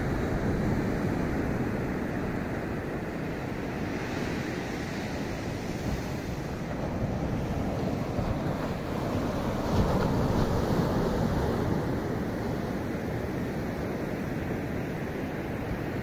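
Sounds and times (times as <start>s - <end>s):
ocean surf breaking on beach: 0.0s - 16.0s
wind rumbling on microphone: 0.0s - 16.0s.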